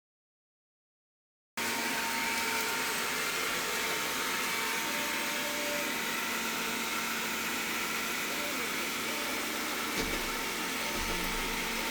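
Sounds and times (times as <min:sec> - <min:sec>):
robot vacuum running: 0:01.6 - 0:11.9.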